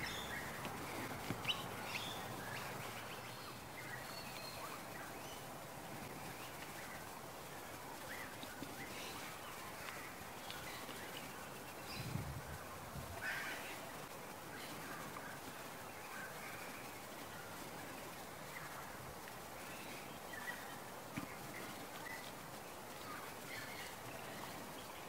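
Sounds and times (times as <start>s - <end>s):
faint bird calls and chirps: 0.0s - 25.0s
steady low hiss: 0.0s - 25.0s.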